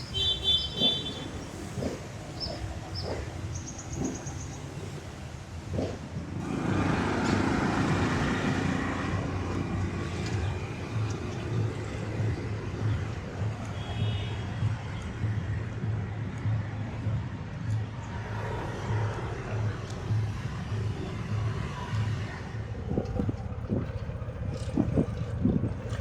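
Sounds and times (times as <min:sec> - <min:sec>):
low engine hum: 0:00.0 - 0:26.0
vehicle engines passing: 0:00.0 - 0:26.0.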